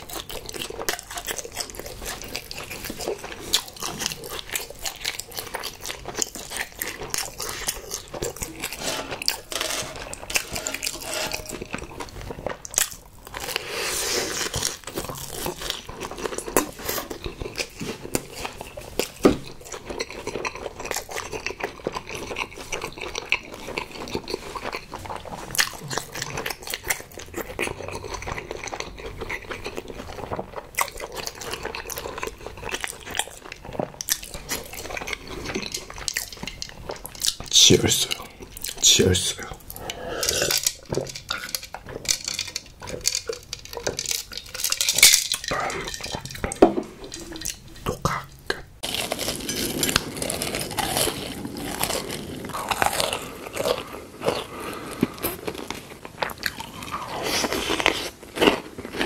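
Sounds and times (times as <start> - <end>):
crisp chewing crunches: 0.0 - 59.0.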